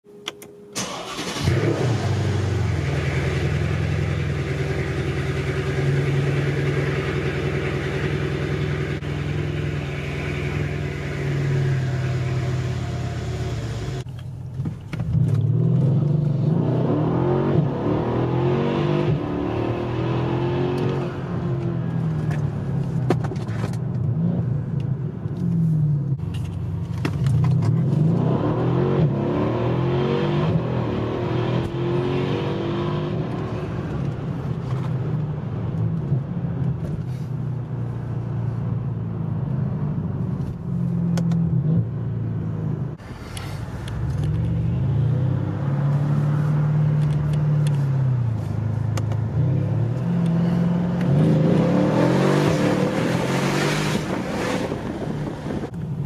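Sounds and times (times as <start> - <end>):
car engine starting and revving: 0.8 - 14.2, 14.8 - 23.0, 27.1 - 35.1, 39.2 - 56.0.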